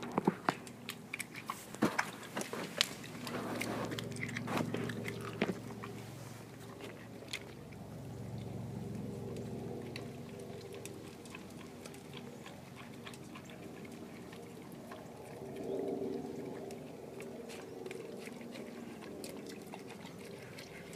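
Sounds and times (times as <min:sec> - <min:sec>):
dog chewing and crunching: 0:00.0 - 0:20.9
faint steady hum: 0:00.0 - 0:20.9.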